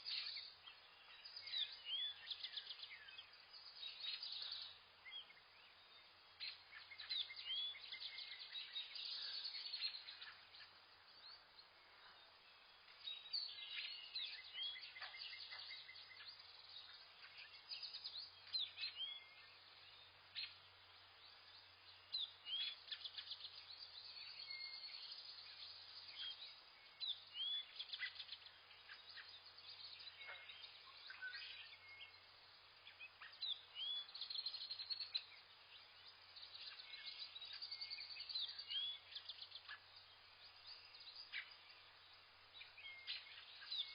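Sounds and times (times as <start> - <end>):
wild birds chirping and calling: 0.0 - 43.9.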